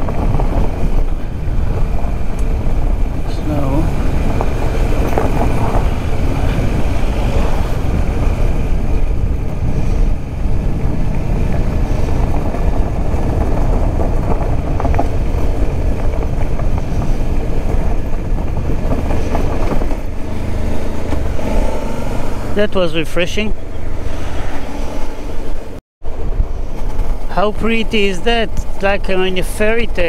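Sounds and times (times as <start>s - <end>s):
motorcycle engine: 0.0s - 29.6s
wind noise: 0.0s - 30.0s.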